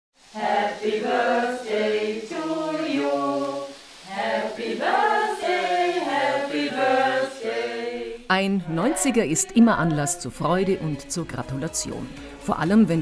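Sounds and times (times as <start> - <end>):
group singing unaccompanied: 0.2 - 13.0.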